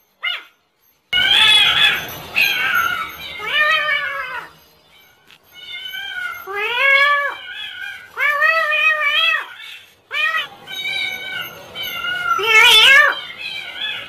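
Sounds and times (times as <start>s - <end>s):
cat-like meows: 1.2s - 4.5s, 5.6s - 14.0s.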